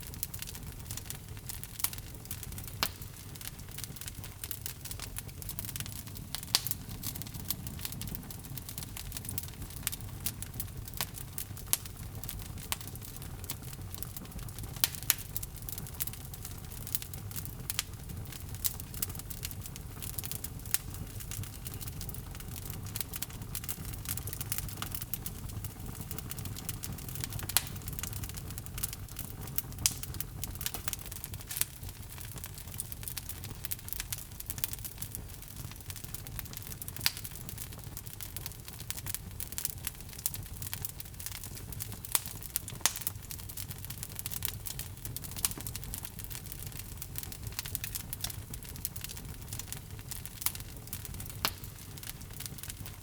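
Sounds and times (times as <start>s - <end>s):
log fire crackling and popping: 0.0s - 53.0s.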